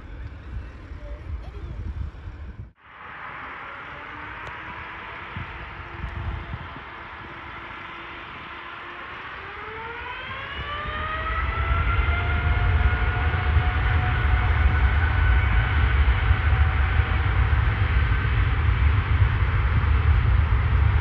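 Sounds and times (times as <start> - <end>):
jet engines spooling up: 0.0 - 21.0.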